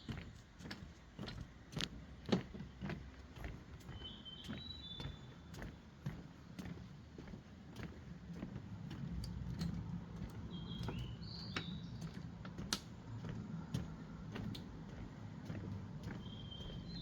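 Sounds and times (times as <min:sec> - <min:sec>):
footsteps clicks and rumble: 0:00.0 - 0:17.0.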